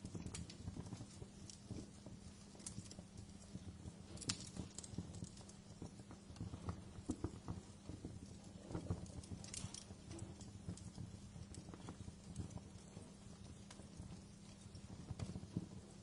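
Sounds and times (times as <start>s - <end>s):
fire pops and snaps: 0.0s - 16.0s
low fire rumble: 0.0s - 16.0s
wood fire crackling: 0.0s - 16.0s.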